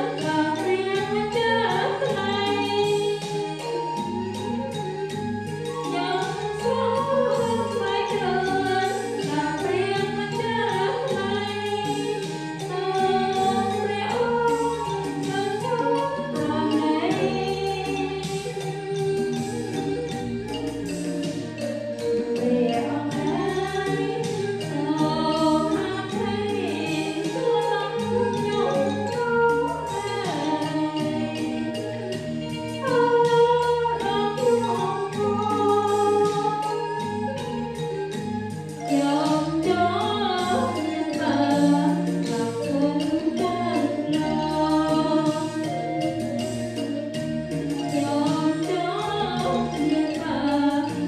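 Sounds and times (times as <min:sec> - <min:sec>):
woman singing gospel into microphone: 0:00.0 - 0:04.4, 0:05.8 - 0:20.6, 0:22.3 - 0:38.1, 0:38.8 - 0:46.6, 0:47.5 - 0:51.0
instrumental accompaniment: 0:00.0 - 0:51.0.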